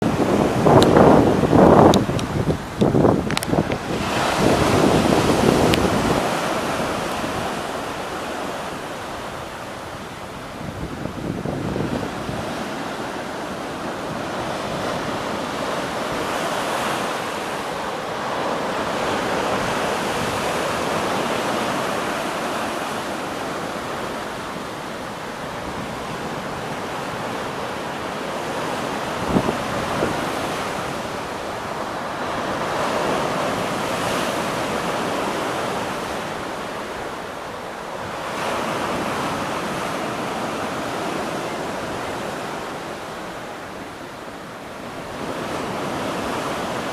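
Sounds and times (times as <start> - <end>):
sea waves washing in: 0.0 - 46.9
wind buffeting microphone: 0.0 - 46.9.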